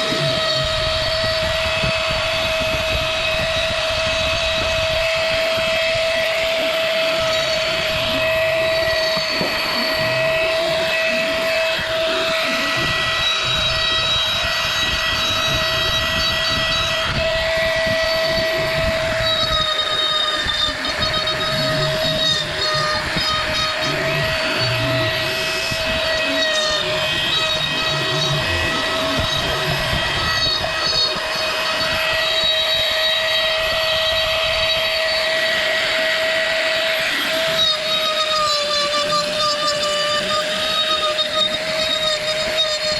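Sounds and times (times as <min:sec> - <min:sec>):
power tool motor whining: 0:00.0 - 0:42.9.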